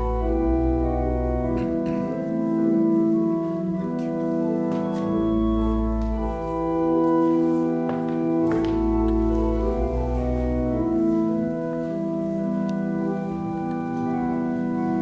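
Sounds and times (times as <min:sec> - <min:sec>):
church organ chords: 0:00.0 - 0:15.0.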